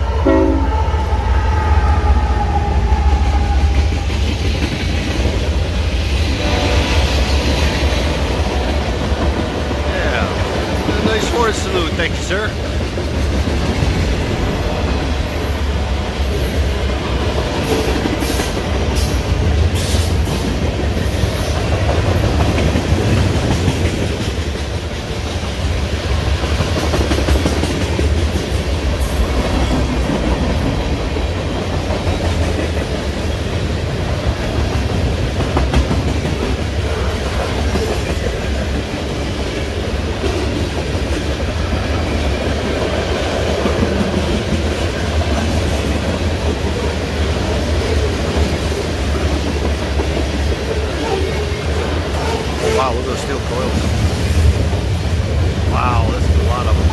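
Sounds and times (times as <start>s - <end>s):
freight train rumble: 0.0s - 56.9s
train wheels clacking: 3.1s - 54.9s.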